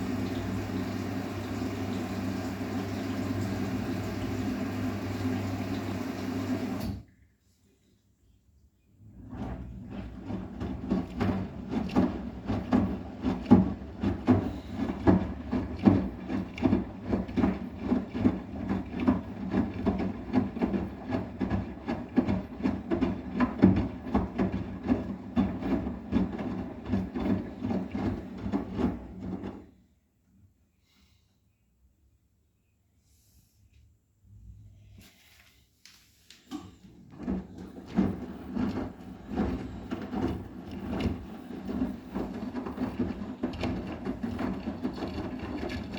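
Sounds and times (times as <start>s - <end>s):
washing machine motor hum: 0.0s - 7.1s, 9.0s - 29.8s, 36.5s - 45.9s.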